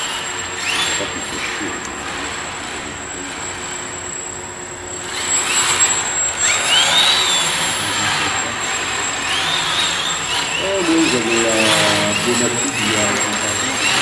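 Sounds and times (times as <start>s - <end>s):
machine whirring with high whine: 0.0s - 14.0s.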